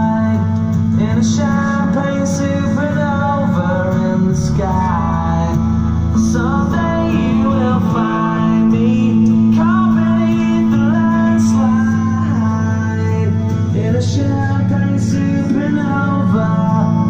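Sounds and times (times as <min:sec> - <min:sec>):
bass line: 0:00.0 - 0:17.0
man singing: 0:00.0 - 0:17.0
strummed acoustic guitar: 0:00.0 - 0:17.0.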